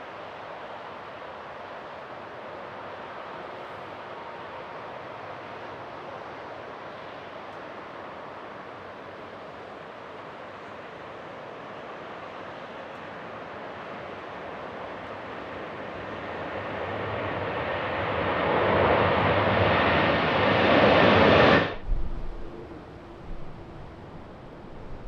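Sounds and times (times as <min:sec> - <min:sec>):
jet airliner engines roaring: 0:00.0 - 0:25.0.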